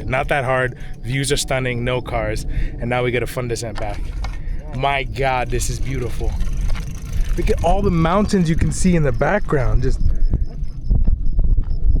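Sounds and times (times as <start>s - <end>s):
bicycle freehub ticking: 0.0s - 11.4s
wind rumbling on microphone: 0.0s - 12.0s.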